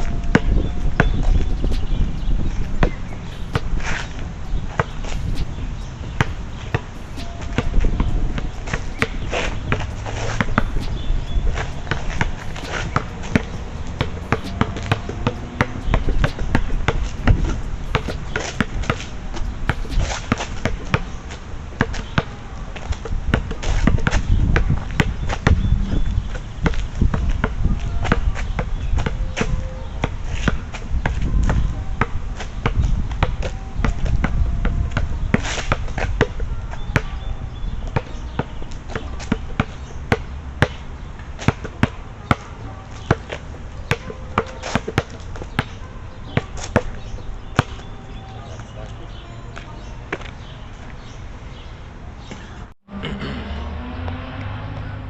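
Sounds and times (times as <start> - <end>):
basketball bouncing: 0.0 - 21.1, 21.8 - 48.2.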